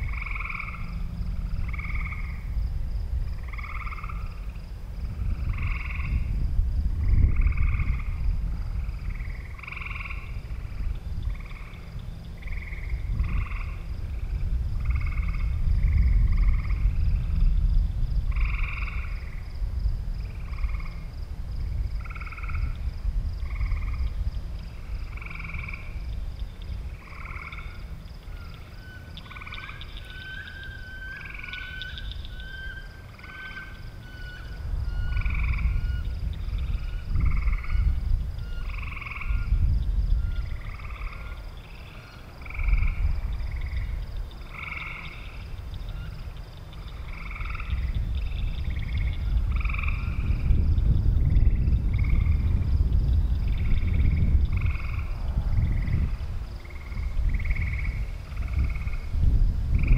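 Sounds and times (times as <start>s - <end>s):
frogs croaking: 0.0s - 59.9s
low rumbling noise: 0.0s - 59.9s.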